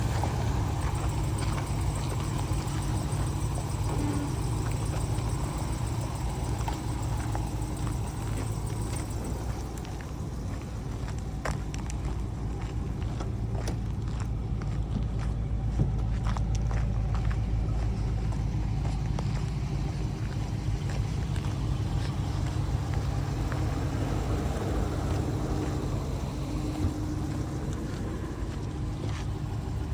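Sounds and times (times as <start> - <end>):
pickup truck engine idling: 0.0 - 29.9.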